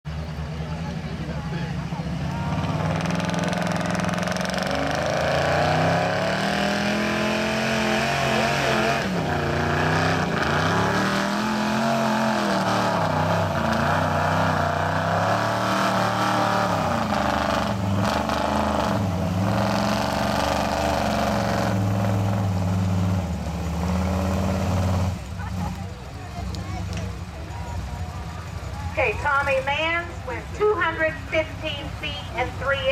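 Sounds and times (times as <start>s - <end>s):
truck engine revving high: 0.1s - 32.9s.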